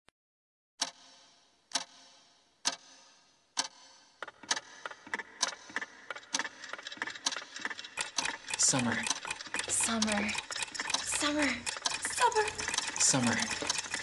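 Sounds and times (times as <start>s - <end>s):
wall clock ticking: 0.8s - 14.0s.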